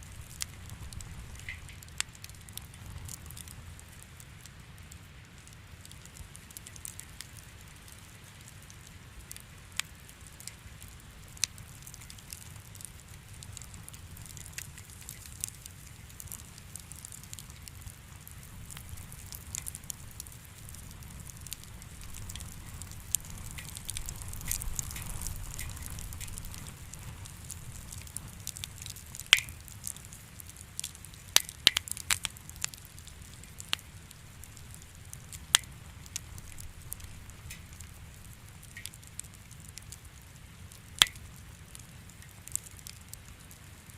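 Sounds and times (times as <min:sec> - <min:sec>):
low rumble of flame: 0:00.0 - 0:43.9
wood fire crackling: 0:00.0 - 0:43.9.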